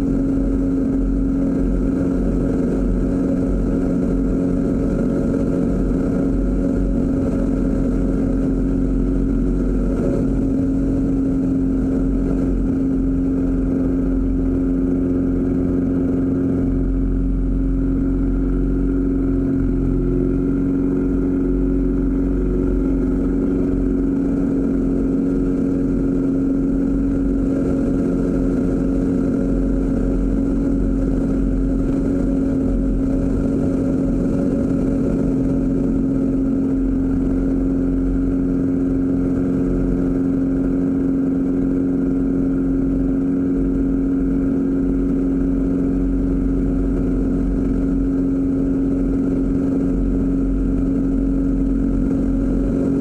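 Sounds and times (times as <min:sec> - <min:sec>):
propeller engine running: 0:00.0 - 0:53.0.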